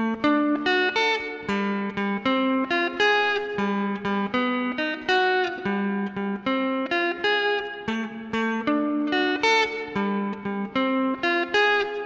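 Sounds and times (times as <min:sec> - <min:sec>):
electric guitar melody: 0:00.0 - 0:12.0.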